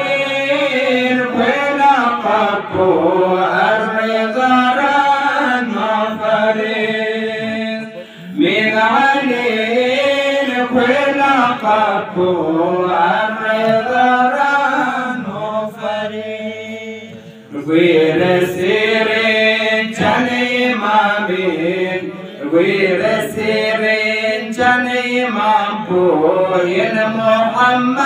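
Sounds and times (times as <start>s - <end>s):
man chanting unaccompanied: 0.0s - 28.0s.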